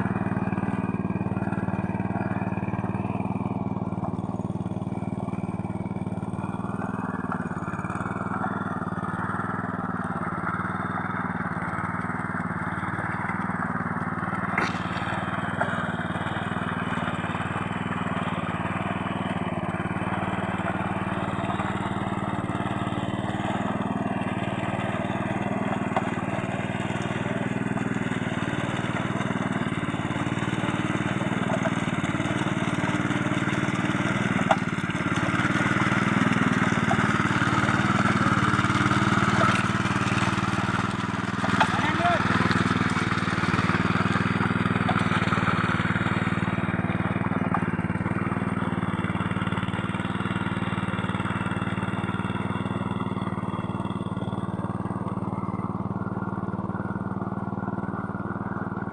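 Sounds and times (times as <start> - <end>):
hand tractor engine running: 0.0 - 58.9.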